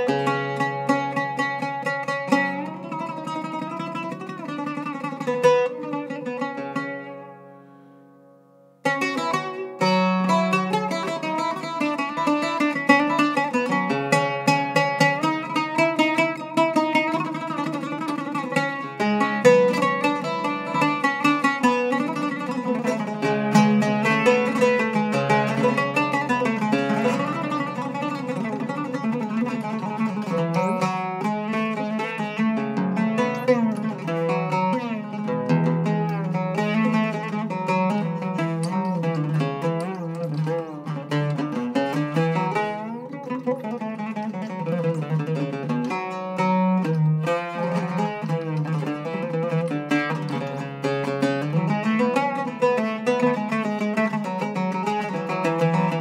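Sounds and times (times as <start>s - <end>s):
oud plucked notes: 0.0s - 56.0s.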